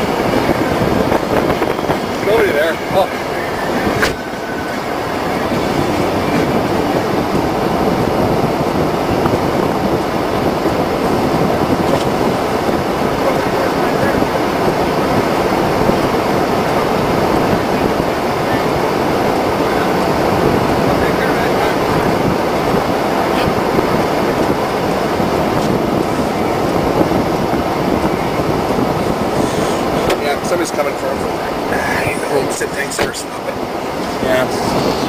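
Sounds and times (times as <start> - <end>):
car road noise: 0.0 - 35.0
rushing wind: 0.0 - 35.0.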